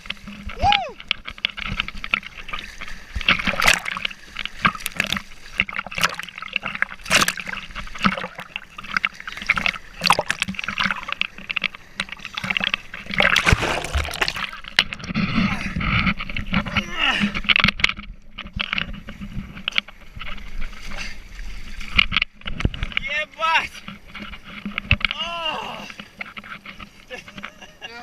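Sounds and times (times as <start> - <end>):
sea water splashing against boat: 0.0 - 28.0.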